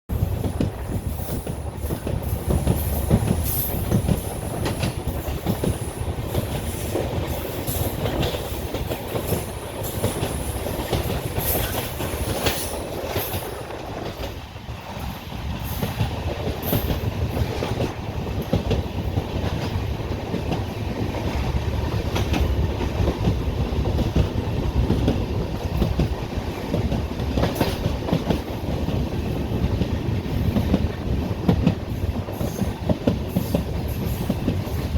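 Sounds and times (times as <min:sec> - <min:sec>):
train wheels clattering on rails: 0:00.1 - 0:34.9.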